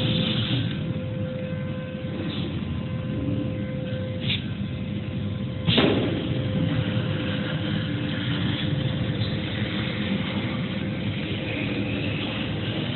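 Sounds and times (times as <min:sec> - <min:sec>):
machine mechanical hum: 0:00.0 - 0:12.9.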